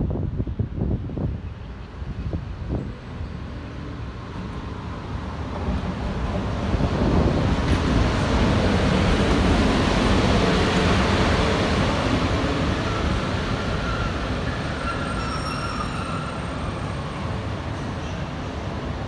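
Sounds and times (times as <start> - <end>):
electric locomotive rumbling on rails: 0.0 - 19.0.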